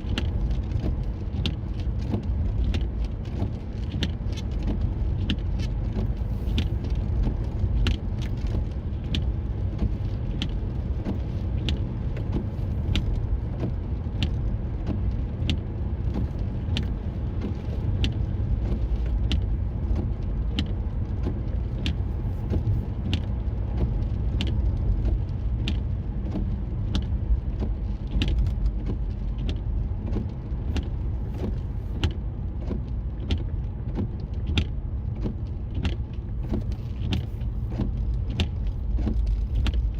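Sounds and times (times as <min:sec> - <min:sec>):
low road rumble: 0:00.0 - 0:39.9.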